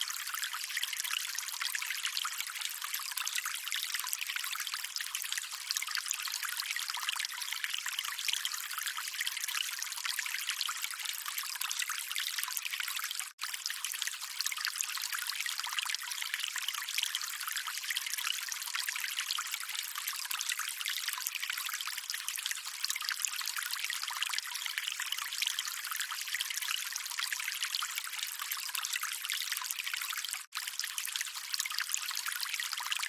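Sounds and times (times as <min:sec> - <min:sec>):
water trickling: 0:00.0 - 0:33.0.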